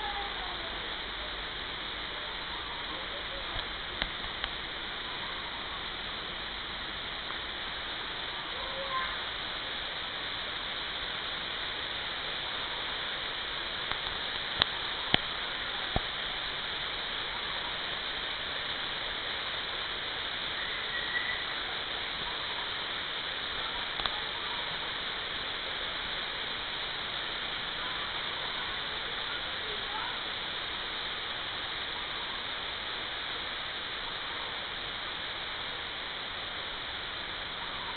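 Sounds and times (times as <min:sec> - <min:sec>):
small waterfall rushing: 0:00.0 - 0:37.9.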